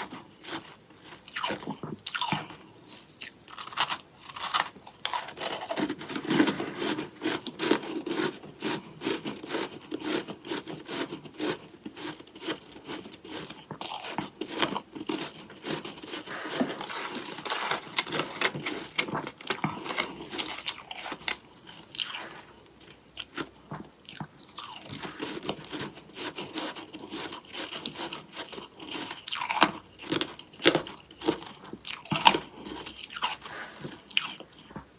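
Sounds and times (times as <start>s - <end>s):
chewing crunchy ice: 0.0s - 34.9s.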